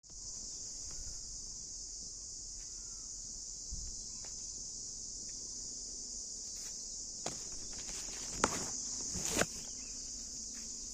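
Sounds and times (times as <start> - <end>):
insect chorus droning: 0.0 - 10.9.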